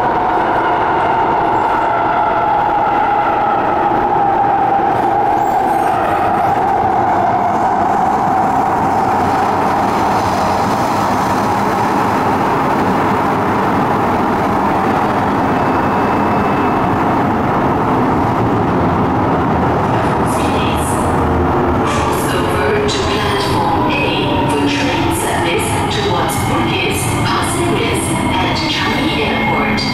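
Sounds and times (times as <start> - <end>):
rumble of train wheels: 0.0 - 29.9.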